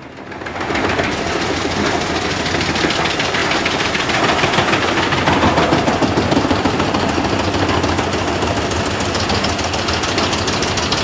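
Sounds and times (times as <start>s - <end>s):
wood chipper diesel engine: 0.0s - 11.0s
dense fast rattle: 0.1s - 11.0s.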